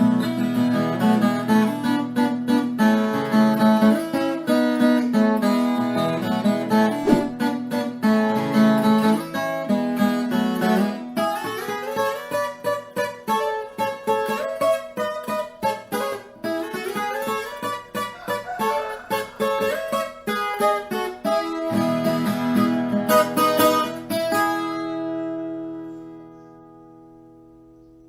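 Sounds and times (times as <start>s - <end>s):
acoustic plucked strings strumming: 0.0s - 27.0s.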